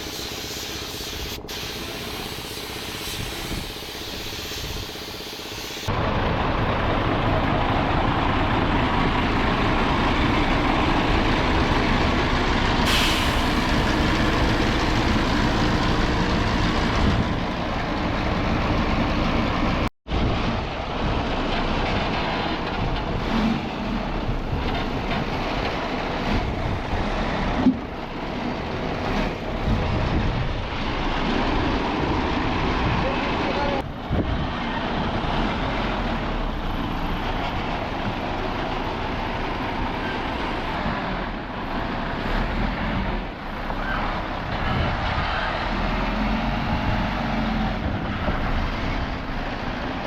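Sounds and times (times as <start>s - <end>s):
heavy truck engine running: 0.0s - 50.0s.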